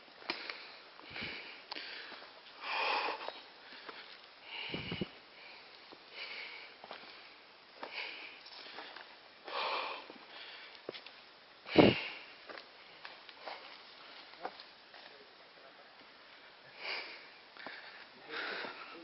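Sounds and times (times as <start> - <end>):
person breathing hard: 0.3 - 10.9, 11.7 - 13.7, 16.3 - 19.0.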